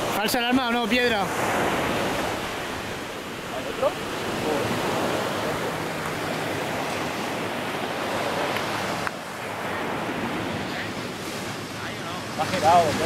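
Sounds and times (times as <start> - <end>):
sea surf washing: 0.0 - 13.0.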